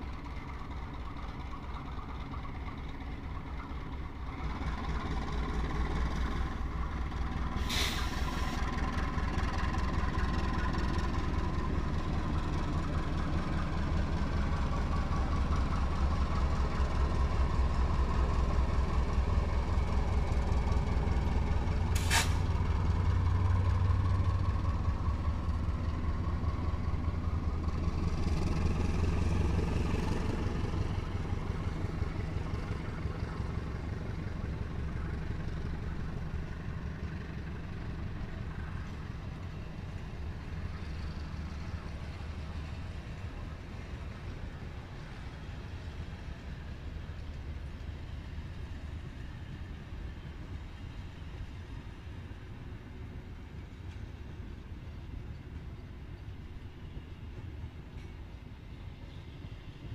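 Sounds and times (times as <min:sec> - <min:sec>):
locomotive engine rumble: 0:00.0 - 0:59.9
train wheels on rails: 0:00.0 - 0:59.9.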